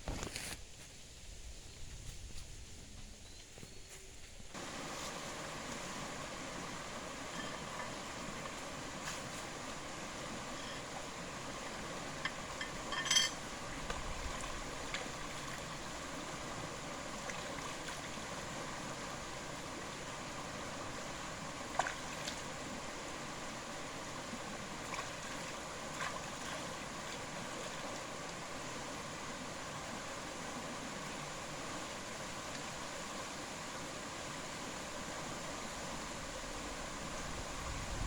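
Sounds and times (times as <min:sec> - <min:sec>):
night forest hiss: 0:00.0 - 0:38.0.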